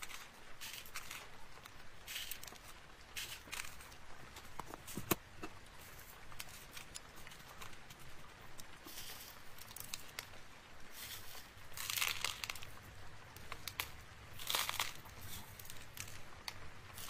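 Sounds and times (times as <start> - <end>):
beads clicking on paper: 0.0 - 5.2, 5.9 - 17.0
paper rustling: 0.0 - 17.0.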